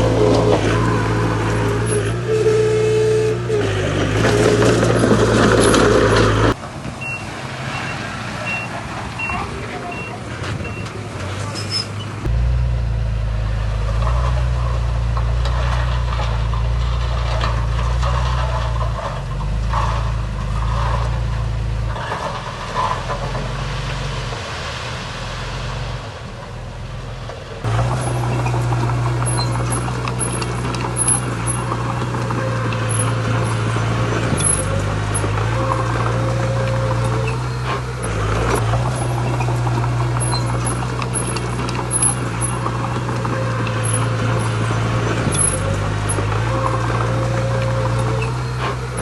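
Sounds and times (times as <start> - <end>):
heavy diesel machinery running: 0.0 - 49.0.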